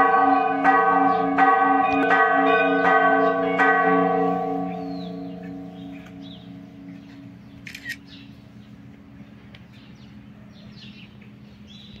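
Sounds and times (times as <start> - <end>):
church bell low hum: 0.0 - 11.0.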